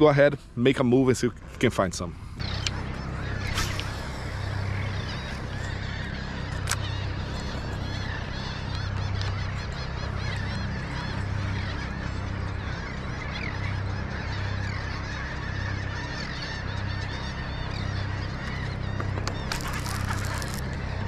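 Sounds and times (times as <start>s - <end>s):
seabirds calling: 0.0s - 21.0s
steady low rumble: 0.0s - 21.0s.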